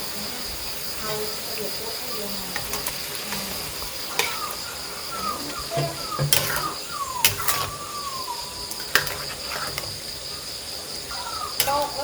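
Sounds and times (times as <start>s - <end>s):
falling whistle-like calls: 0.0s - 12.0s.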